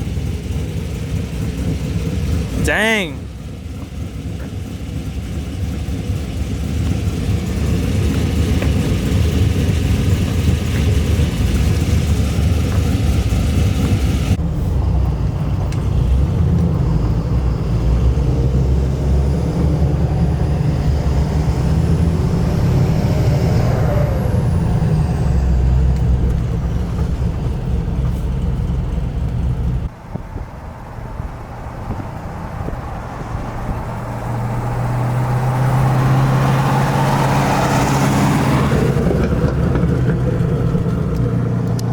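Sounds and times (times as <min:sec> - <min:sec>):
car engine running: 0:00.0 - 0:41.9
road noise: 0:00.0 - 0:41.9.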